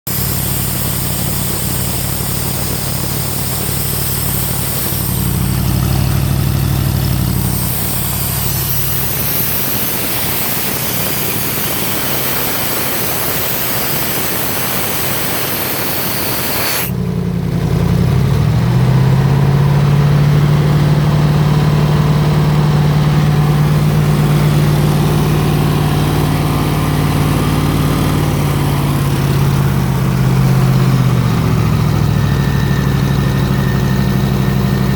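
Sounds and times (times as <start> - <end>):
air compressor humming: 0.1 - 17.0, 22.5 - 34.9.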